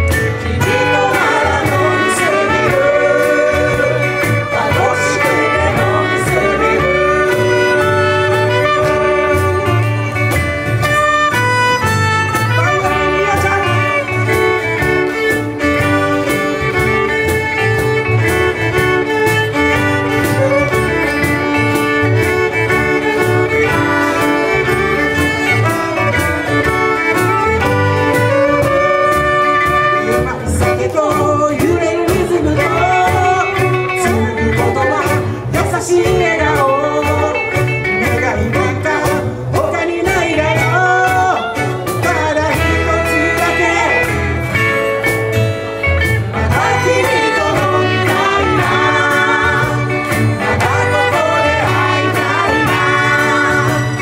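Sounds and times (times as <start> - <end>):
live band playing pop instrumental: 0.0 - 54.0.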